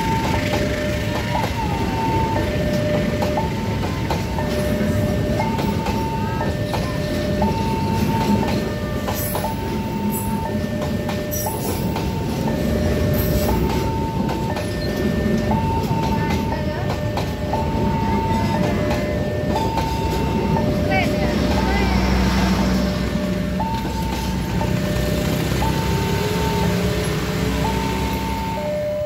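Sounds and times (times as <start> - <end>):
crossing alarm high low tone: 0.0 - 29.0
train wheels rumbling on rail: 0.0 - 29.0.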